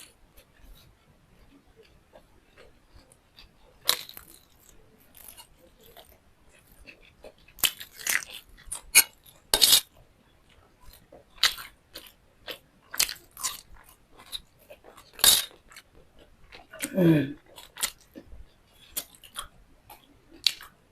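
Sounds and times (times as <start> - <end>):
crunchy food being chewed: 0.0 - 20.9.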